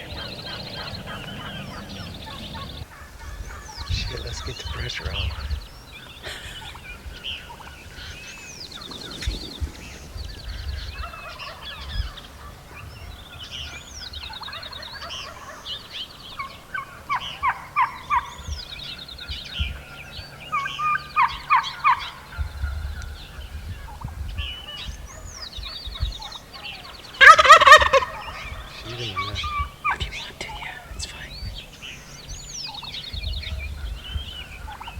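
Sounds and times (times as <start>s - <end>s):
loud turkey call: 0.0s - 30.9s
songbirds chirping and trilling: 0.0s - 34.9s
wild turkeys gobbling: 0.0s - 34.9s.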